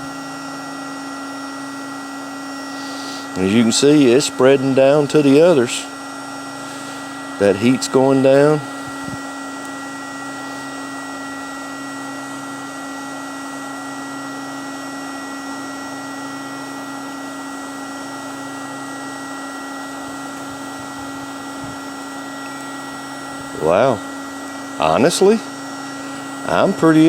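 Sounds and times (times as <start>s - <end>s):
electric lighter fan blowing hiss: 0.0s - 27.0s.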